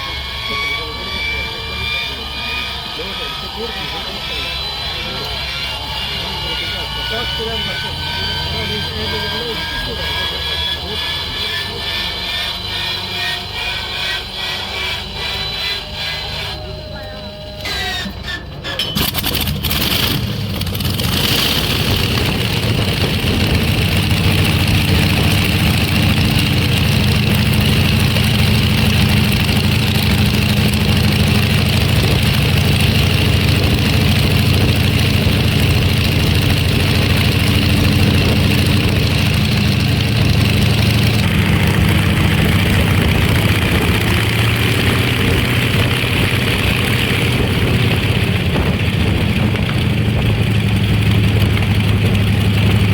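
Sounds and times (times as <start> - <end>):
helicopter engine running: 0.0 - 52.9.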